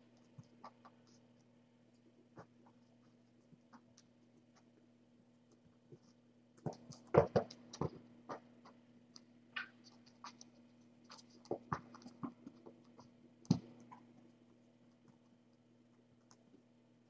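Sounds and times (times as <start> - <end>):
kittens scratching and tapping: 0.0 - 16.7.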